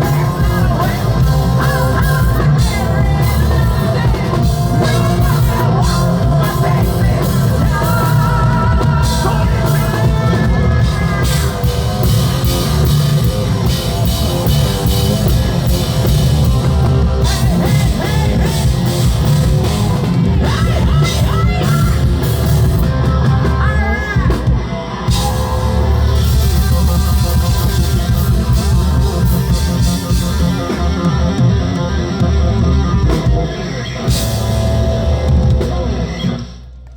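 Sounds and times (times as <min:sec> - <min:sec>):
person singing: 0:00.0 - 0:34.5
distorted electric guitar: 0:00.0 - 0:36.8
bass guitar: 0:00.0 - 0:36.9
drum kit: 0:00.0 - 0:36.9.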